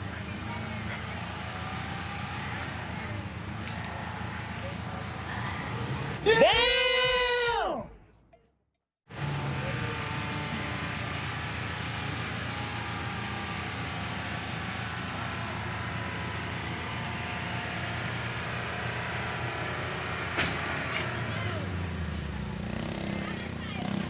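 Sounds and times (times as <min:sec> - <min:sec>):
vehicle engine running: 0:00.0 - 0:06.3, 0:09.1 - 0:24.0.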